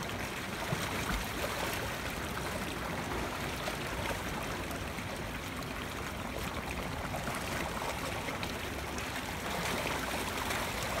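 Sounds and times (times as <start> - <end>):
water spilling into a pool: 0.0 - 11.0.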